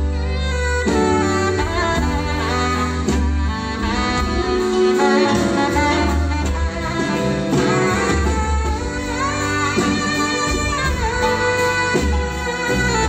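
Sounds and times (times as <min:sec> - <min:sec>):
bass: 0:00.0 - 0:13.0
drums: 0:00.0 - 0:13.0
saxophone melody: 0:00.0 - 0:13.0.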